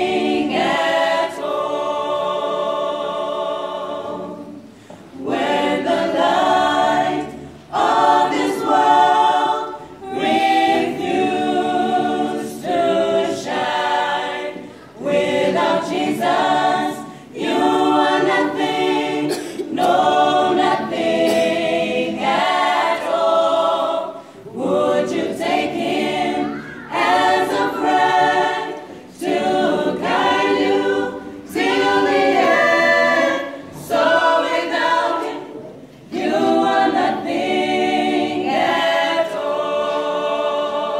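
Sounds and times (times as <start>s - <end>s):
mixed choir singing a cappella: 0.0s - 40.9s.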